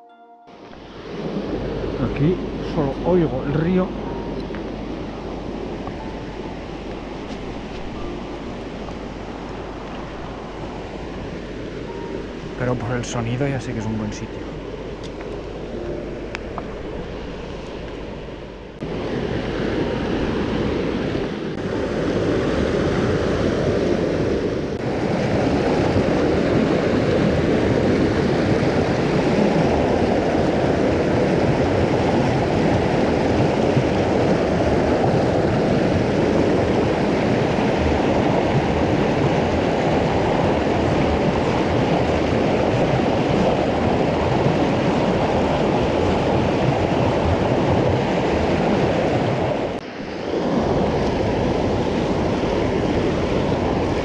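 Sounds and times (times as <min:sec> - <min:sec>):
river water rushing: 0:00.5 - 0:54.0.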